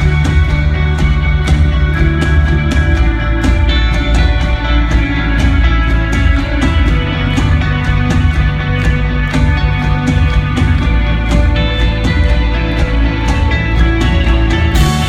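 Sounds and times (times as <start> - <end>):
live rock band playing: 0.0 - 15.0
steady drum beat: 0.0 - 15.0
sustained guitar chords: 0.0 - 15.0.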